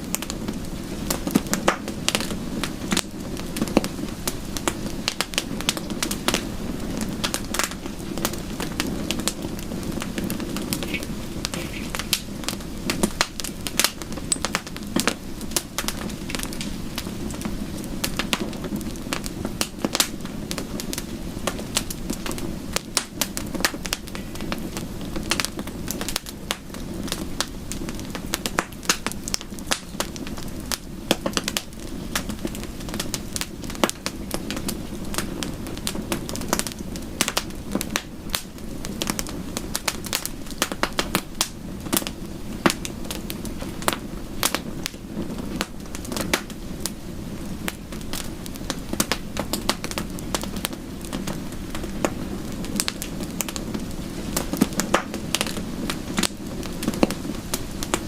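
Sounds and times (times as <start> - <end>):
bonfire crackling: 0.0 - 58.0.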